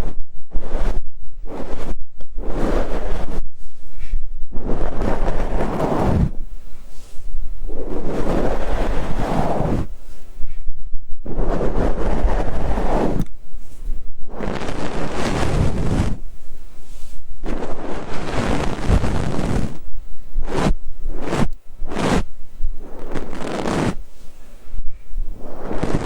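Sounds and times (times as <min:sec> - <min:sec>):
fluffy stick brushing microphone: 0:00.0 - 0:10.6, 0:11.2 - 0:26.0.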